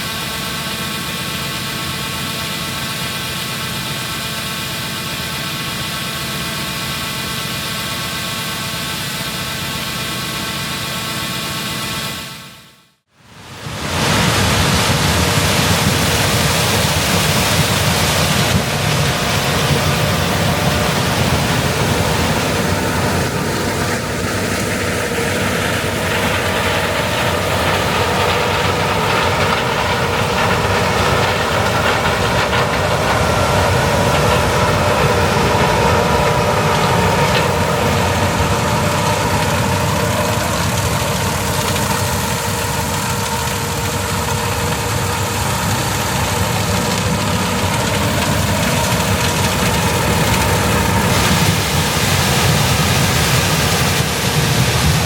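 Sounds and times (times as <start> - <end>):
heavy farm machinery running: 0.0 - 55.0.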